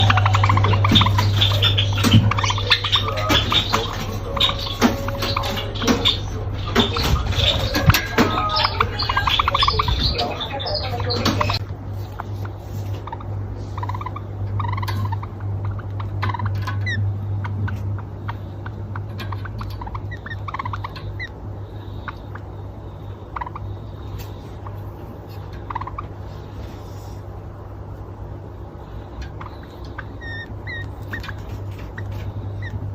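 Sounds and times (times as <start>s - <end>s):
sparrow chirping: 0.0s - 26.6s, 28.8s - 32.9s
steady low hum: 0.0s - 32.9s.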